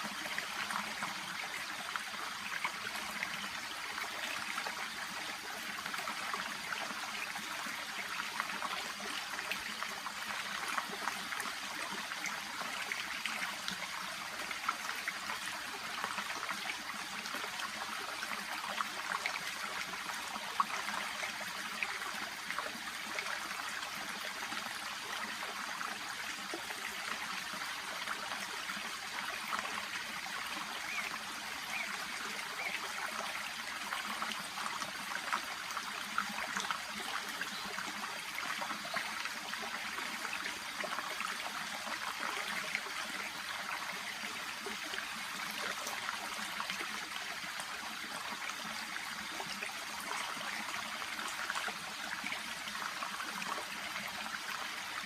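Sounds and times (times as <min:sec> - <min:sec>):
shallow stream babbling: 0:00.0 - 0:55.0.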